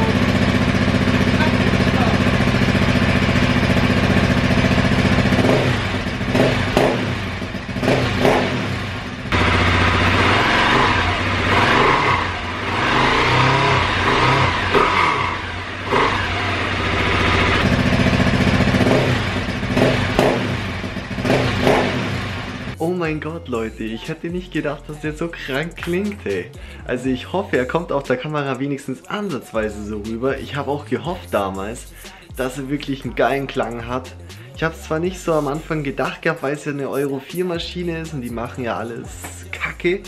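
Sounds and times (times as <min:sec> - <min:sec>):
motorcycle engine idling and revving: 0:00.0 - 0:28.3, 0:29.4 - 0:40.0.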